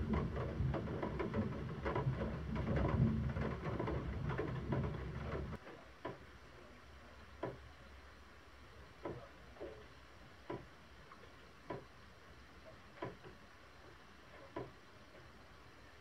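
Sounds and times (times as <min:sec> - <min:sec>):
faint low background noise: 0:00.0 - 0:16.0.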